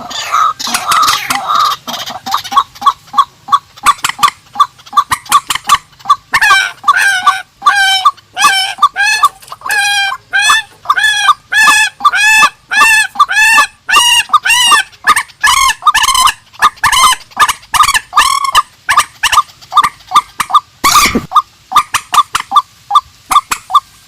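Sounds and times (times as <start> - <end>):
birds calling with bending notes: 0.0 - 23.9.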